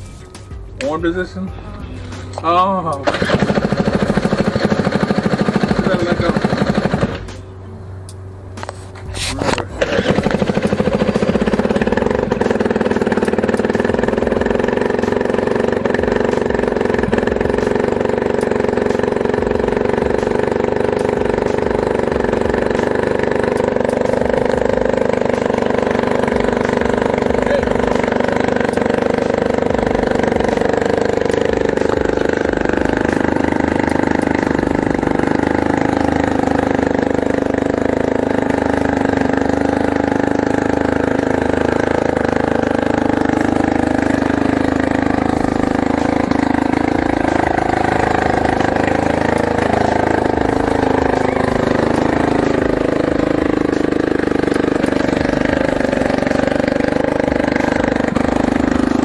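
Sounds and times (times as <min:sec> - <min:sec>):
small atv engine running: 0:00.0 - 0:01.4, 0:02.0 - 0:59.0.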